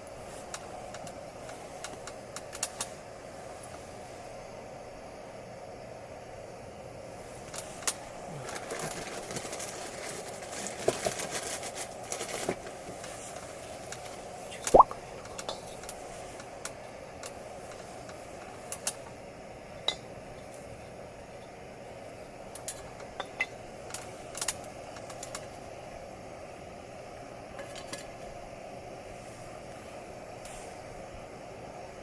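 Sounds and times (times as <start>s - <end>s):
fire hiss: 0.0s - 32.0s.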